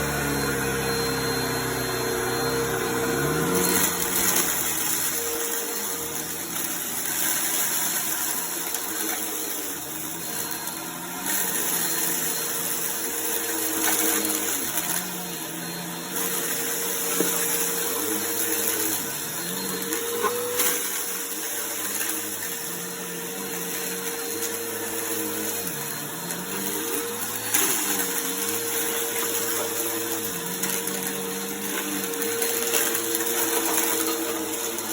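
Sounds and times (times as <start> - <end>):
vacuum cleaner running: 0.0 - 34.9
pieces rattling up hose: 3.0 - 34.9.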